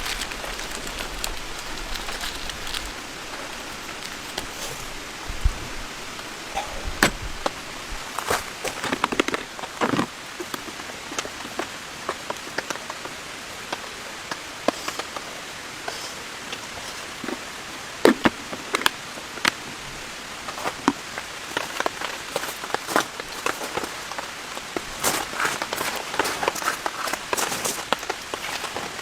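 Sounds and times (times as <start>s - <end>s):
rain hissing: 0.0s - 29.0s.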